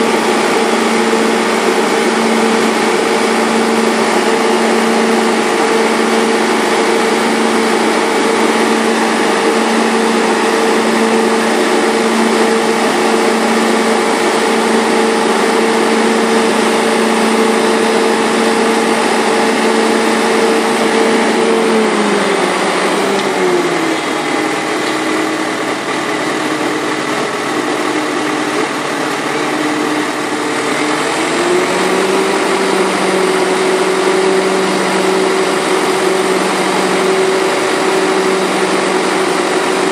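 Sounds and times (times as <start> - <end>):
tractor engine whining: 0.0 - 39.9.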